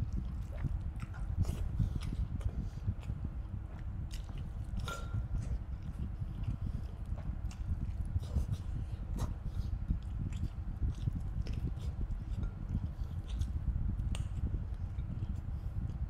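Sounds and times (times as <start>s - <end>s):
lip smacks: 0.0s - 16.0s
wet chewing: 0.0s - 16.0s.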